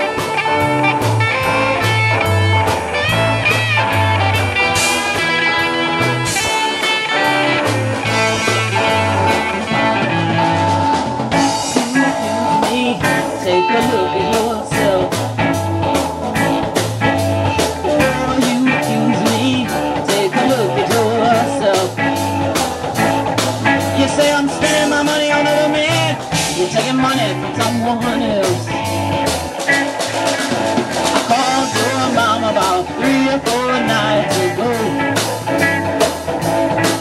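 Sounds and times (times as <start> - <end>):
electric guitar: 0.0 - 37.0
live blues band playing: 0.0 - 37.0
steady drum beat: 0.0 - 37.0.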